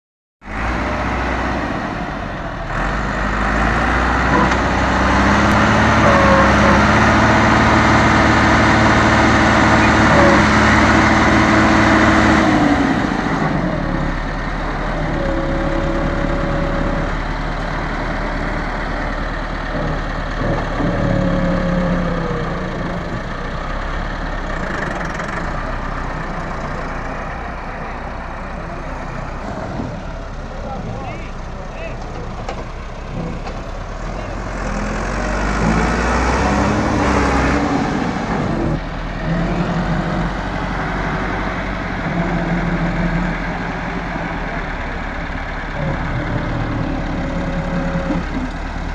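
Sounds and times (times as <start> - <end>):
tractor diesel engine under load: 0.4 - 48.9.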